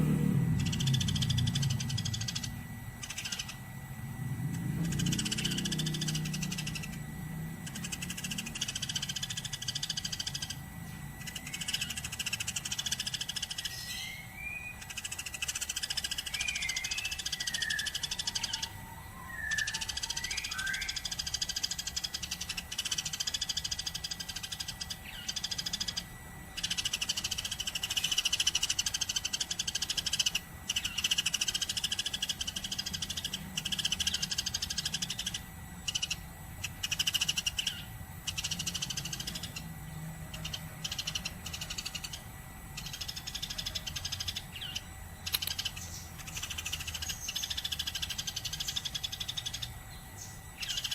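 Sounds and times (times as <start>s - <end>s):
sparrows chirping chatter: 0.0s - 50.9s.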